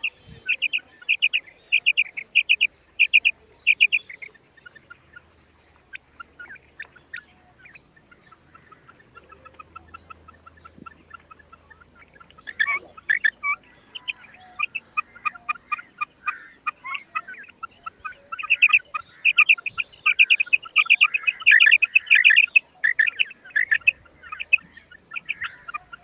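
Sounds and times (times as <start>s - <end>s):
quail calling: 0.0s - 26.0s.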